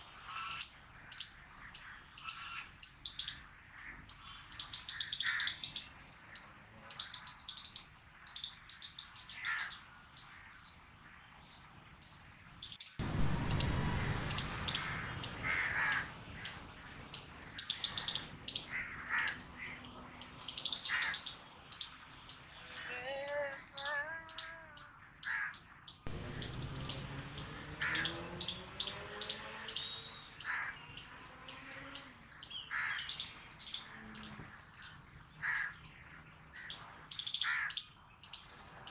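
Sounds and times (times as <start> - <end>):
squirrel barking: 0.3 - 10.9, 12.0 - 35.8, 36.6 - 38.9.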